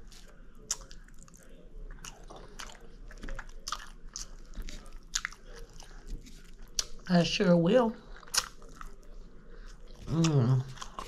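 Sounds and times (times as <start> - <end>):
person chewing food: 0.0 - 7.1, 8.0 - 11.0.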